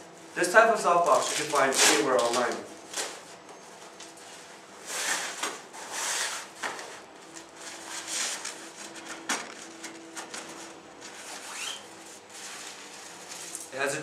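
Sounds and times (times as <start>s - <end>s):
fabric rustling: 1.0s - 13.8s.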